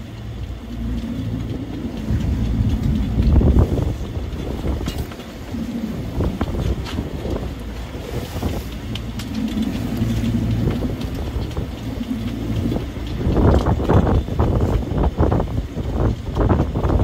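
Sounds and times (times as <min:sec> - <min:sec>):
boat engine hum: 0:00.0 - 0:17.0
wind buffeting microphone: 0:00.0 - 0:17.0.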